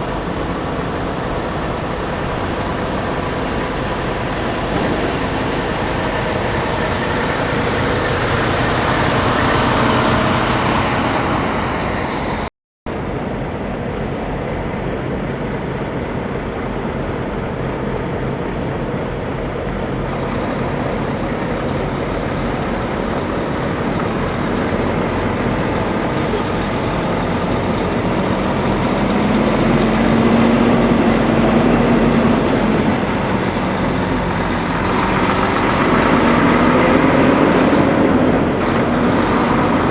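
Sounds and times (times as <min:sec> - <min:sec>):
truck engine hum: 0:00.0 - 0:39.9
trucks passing on road: 0:00.0 - 0:39.9.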